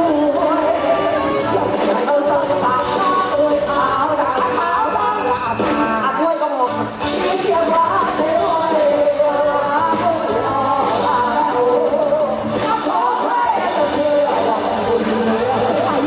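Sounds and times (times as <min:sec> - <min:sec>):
live band music: 0:00.0 - 0:16.0
woman singing: 0:00.0 - 0:16.0.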